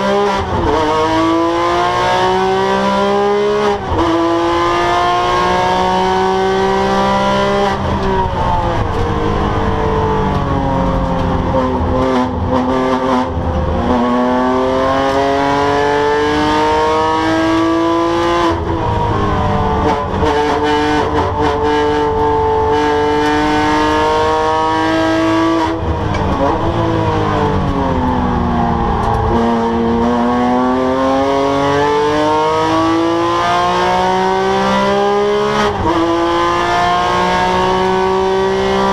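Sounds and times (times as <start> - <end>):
racing car engine revving: 0.0 - 38.9.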